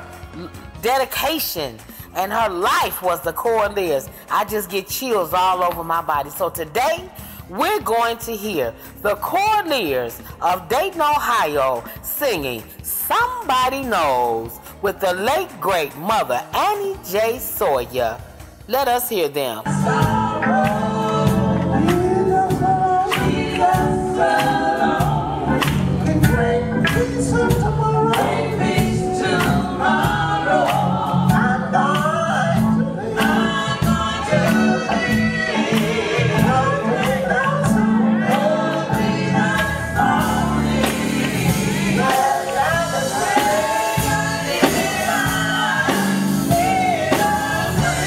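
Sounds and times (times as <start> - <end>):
gospel group singing with band: 0.0 - 48.0.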